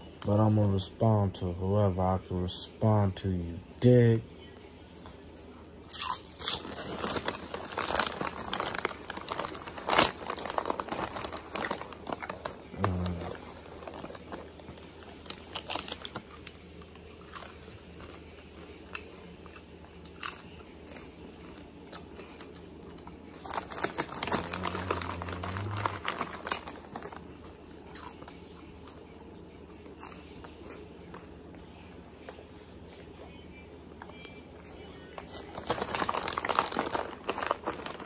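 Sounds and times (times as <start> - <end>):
potato chips crunching: 5.8 - 38.0.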